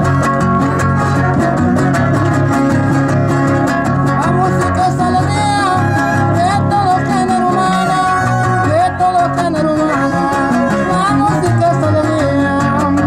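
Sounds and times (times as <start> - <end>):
violin melody: 0.0 - 12.8
guitars strumming: 0.0 - 13.0.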